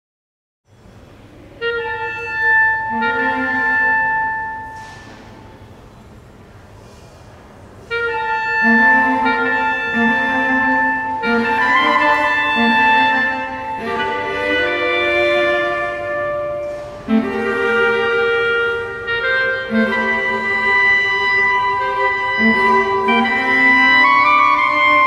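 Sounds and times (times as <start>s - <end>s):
clarinet and cello playing: 1.5s - 5.8s, 7.7s - 25.0s.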